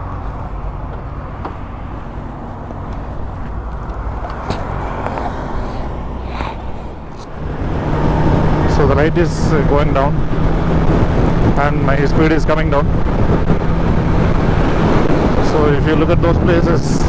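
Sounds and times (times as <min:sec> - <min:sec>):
motorcycle engine cruising: 0:00.0 - 0:16.8
wind and road noise: 0:00.0 - 0:17.0.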